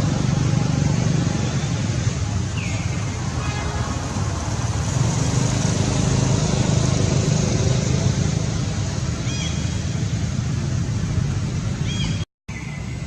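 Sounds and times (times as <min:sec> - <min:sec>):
engine running: 0:00.0 - 0:12.2.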